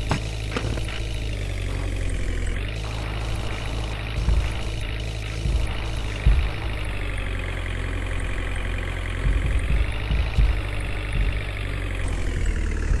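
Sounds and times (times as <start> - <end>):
heavy engine idling: 0.0 - 13.0
low bumps: 0.0 - 13.0.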